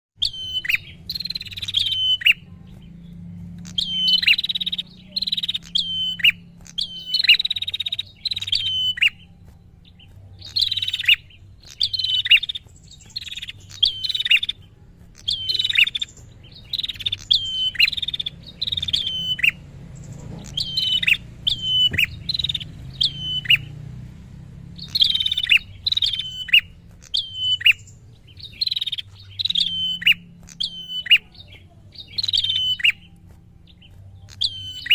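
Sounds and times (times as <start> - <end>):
bird chirping sharply: 0.2 - 34.9.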